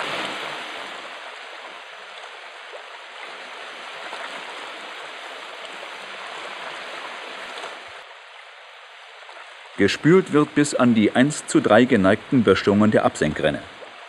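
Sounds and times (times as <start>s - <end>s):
rushing churning water: 0.0s - 14.0s.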